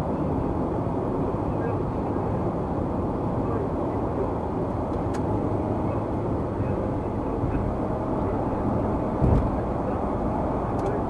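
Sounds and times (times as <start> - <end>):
car tyre and road noise: 0.0 - 11.0.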